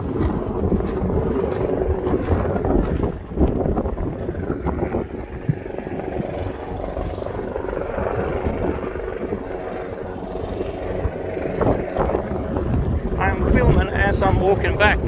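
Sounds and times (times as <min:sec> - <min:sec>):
helicopter rotor drone: 0:00.0 - 0:15.0
low rumble: 0:00.0 - 0:15.0.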